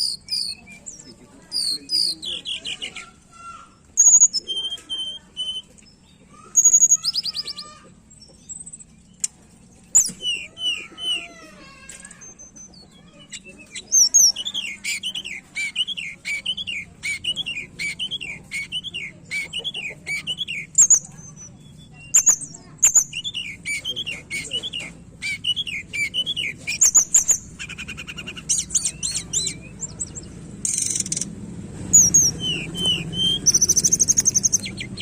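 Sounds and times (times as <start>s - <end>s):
bird singing chirps and whistles: 0.0s - 3.1s, 4.0s - 9.0s, 9.9s - 11.3s, 12.0s - 31.3s, 31.9s - 35.0s.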